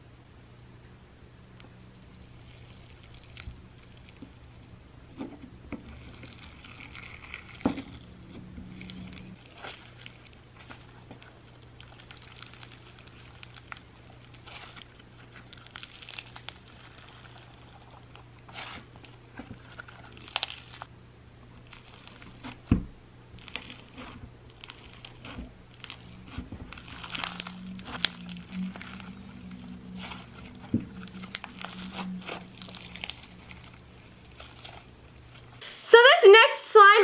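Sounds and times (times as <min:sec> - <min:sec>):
slime beads crunching: 0:02.1 - 0:04.7, 0:05.7 - 0:22.7, 0:23.3 - 0:35.6.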